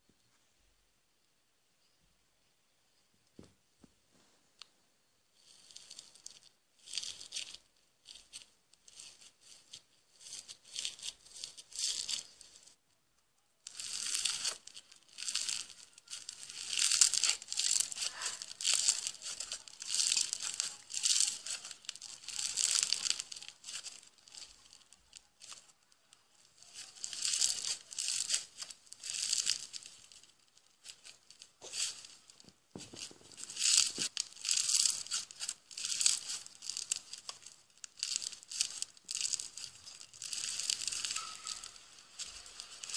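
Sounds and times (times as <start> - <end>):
slime crackling while kneaded: 5.4 - 12.8, 13.6 - 42.9.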